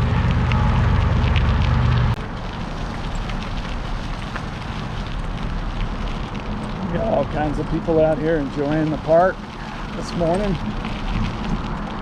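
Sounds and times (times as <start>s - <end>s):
bike tyres crackling on gravel: 0.0s - 12.0s
wind rumbling on microphone: 0.0s - 12.0s.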